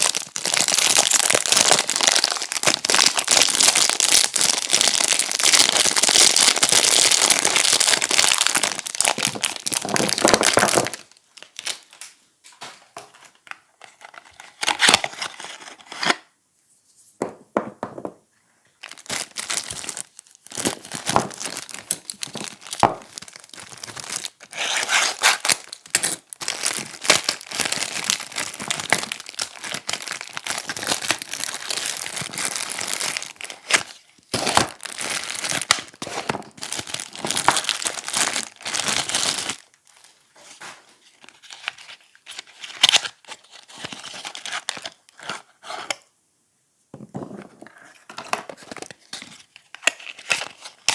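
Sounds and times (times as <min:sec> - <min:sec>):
wrapper crinkling and tearing: 0:00.0 - 0:12.2, 0:13.3 - 0:16.2, 0:18.8 - 0:45.4, 0:48.0 - 0:50.9.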